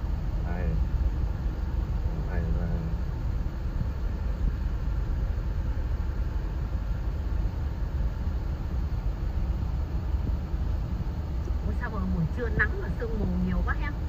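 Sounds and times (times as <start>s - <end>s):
tyres and engine rumble: 0.0s - 14.0s.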